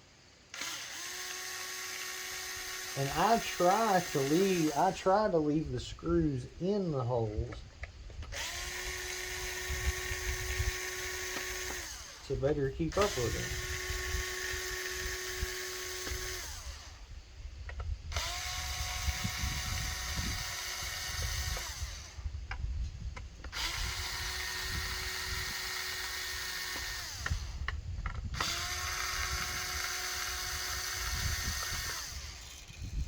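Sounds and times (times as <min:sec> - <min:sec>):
power driver whining: 0:00.5 - 0:33.0.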